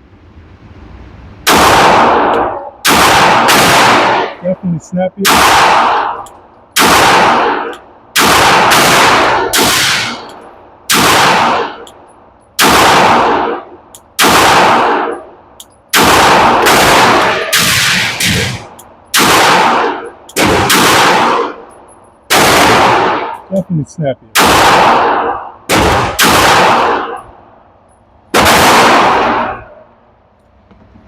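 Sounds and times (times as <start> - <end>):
pistol shots: 1.5 - 4.4, 5.2 - 12.0, 12.6 - 23.4, 24.3 - 27.3, 28.3 - 29.9.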